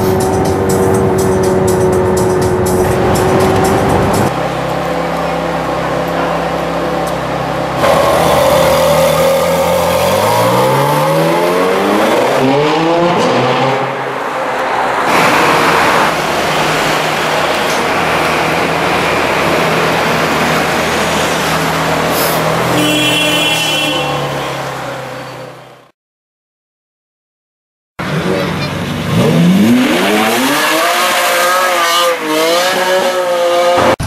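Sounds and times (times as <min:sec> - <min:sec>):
car engine idling and revving: 0:00.0 - 0:25.9, 0:28.0 - 0:34.0.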